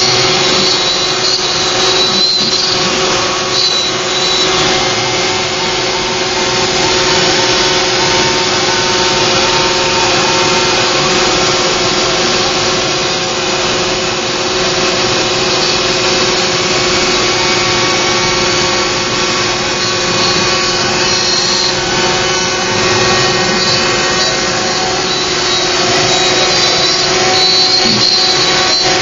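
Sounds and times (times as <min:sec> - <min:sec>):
hiss of bit cutting wood: 0:00.0 - 0:29.0
router spindle running: 0:00.0 - 0:29.0.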